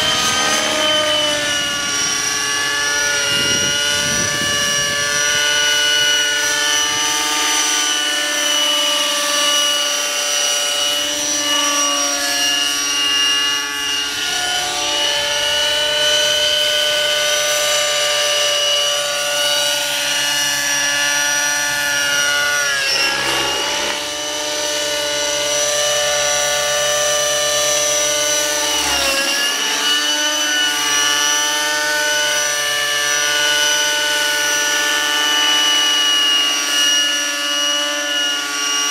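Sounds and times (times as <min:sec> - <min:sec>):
model helicopter engine whine: 0:00.0 - 0:38.9.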